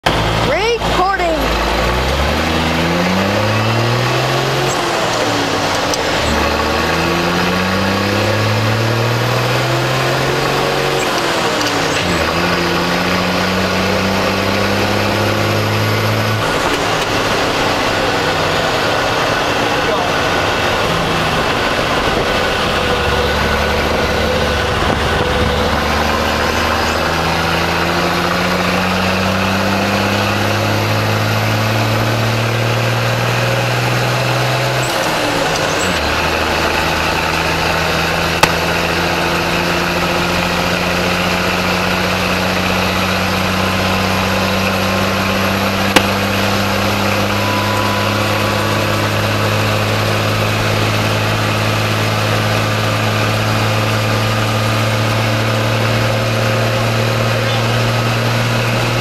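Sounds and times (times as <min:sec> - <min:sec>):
diesel engine accelerating: 0:00.0 - 0:59.0.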